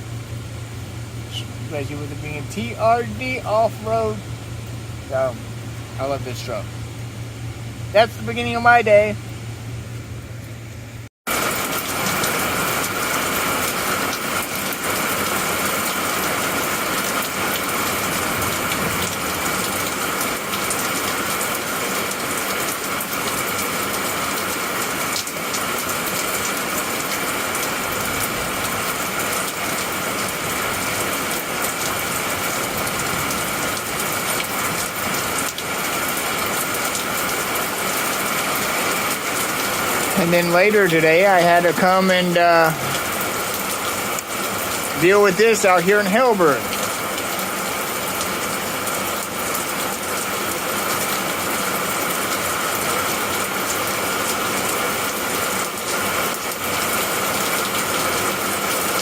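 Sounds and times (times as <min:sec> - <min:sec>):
heavy rain: 0:00.0 - 0:10.6, 0:11.3 - 0:59.0.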